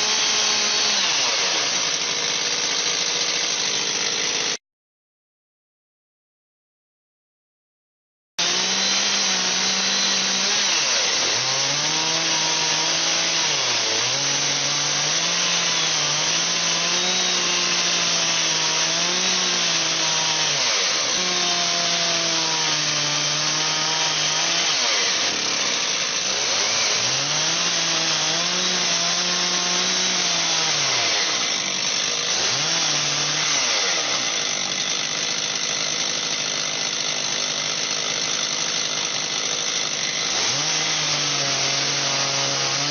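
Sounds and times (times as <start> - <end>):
chainsaw cutting wood: 0.0 - 4.6, 8.4 - 42.9.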